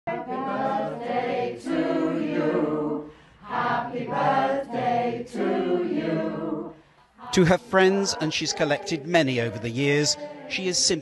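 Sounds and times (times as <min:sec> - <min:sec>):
group singing without accompaniment: 0:00.1 - 0:11.0.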